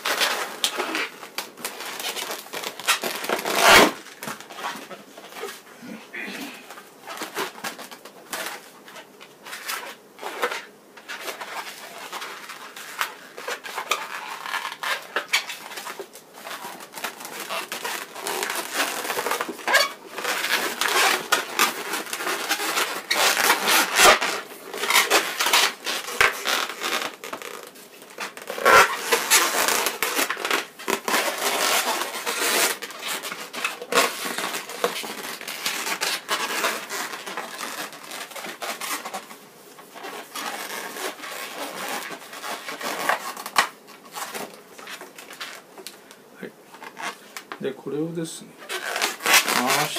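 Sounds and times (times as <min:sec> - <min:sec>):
balloons squeaking and rubbing: 0:00.0 - 0:49.9.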